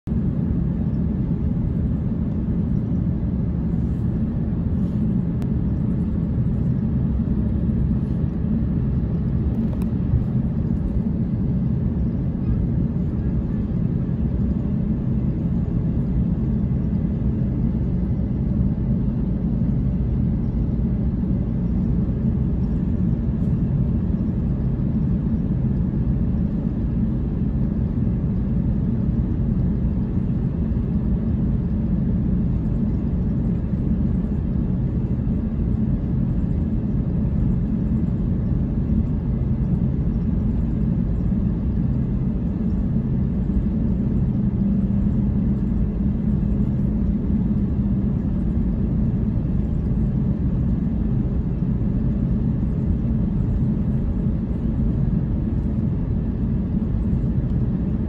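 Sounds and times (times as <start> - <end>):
cabin air running: 0.0 - 58.0
jet engines at taxi thrust: 0.0 - 58.0.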